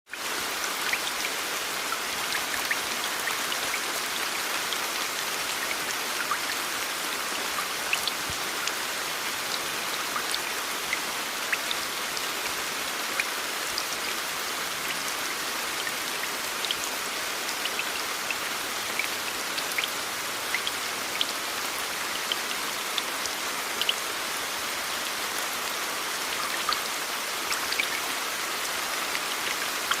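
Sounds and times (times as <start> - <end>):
steady rain falling: 0.1 - 30.0.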